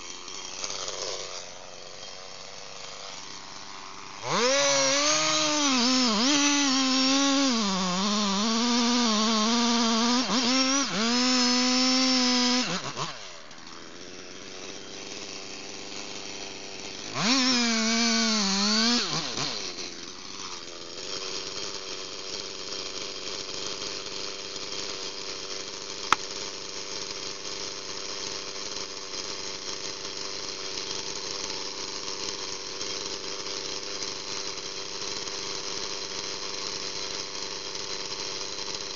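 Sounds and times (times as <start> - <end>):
chainsaw cutting and idling: 0.0 - 38.9.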